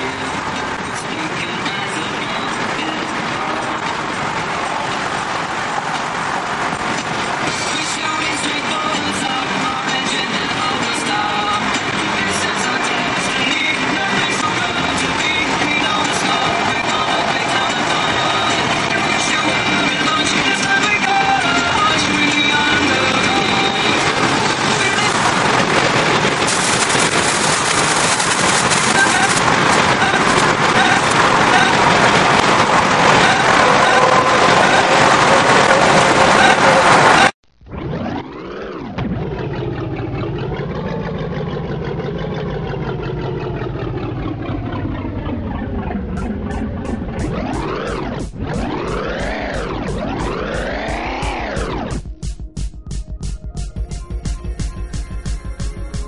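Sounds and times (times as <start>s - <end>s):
car cabin road noise: 0.0s - 38.1s, 38.7s - 52.1s.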